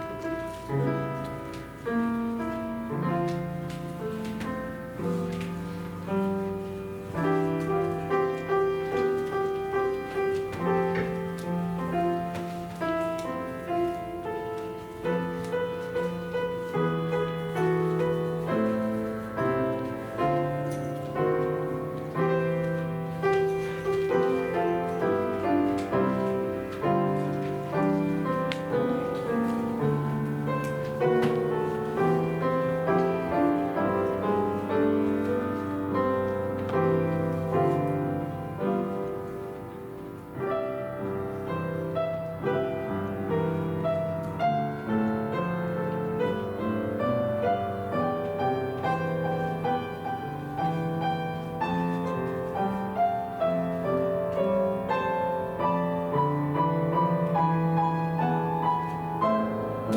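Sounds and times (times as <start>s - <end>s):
slow gentle piano piece: 0.0s - 59.9s.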